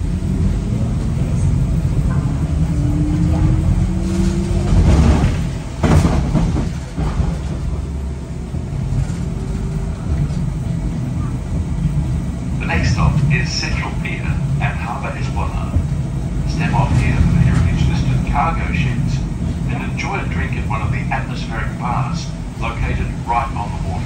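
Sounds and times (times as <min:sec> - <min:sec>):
tram motor whine: 0:00.0 - 0:24.0
tram rumbling on rails: 0:00.0 - 0:24.0.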